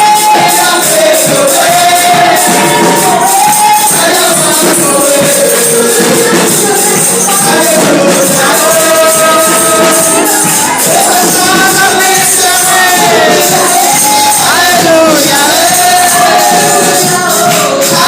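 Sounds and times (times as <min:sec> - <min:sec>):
person singing: 0:00.0 - 0:18.0
tambourine jingling: 0:00.0 - 0:18.0.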